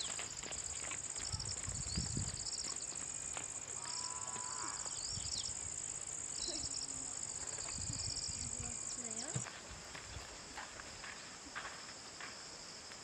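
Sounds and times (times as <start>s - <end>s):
pulsing insect trills: 0.0s - 10.4s
crickets chirping: 0.0s - 13.0s.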